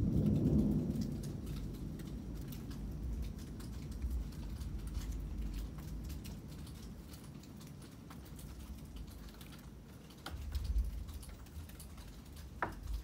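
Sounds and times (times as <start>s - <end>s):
rainwater dripping: 0.0s - 13.0s.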